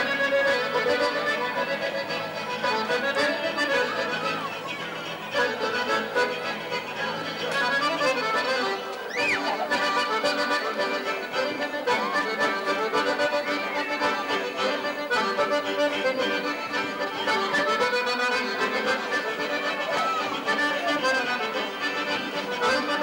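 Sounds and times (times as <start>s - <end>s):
accordion playing dance tune: 0.0s - 23.0s.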